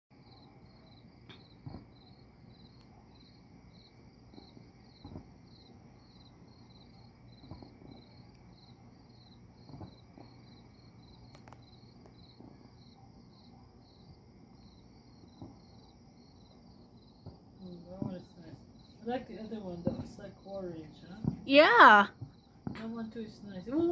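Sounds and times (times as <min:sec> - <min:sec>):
crickets chirping: 0:00.2 - 0:23.9
distant fireworks thuds: 0:01.2 - 0:13.0, 0:14.0 - 0:23.9.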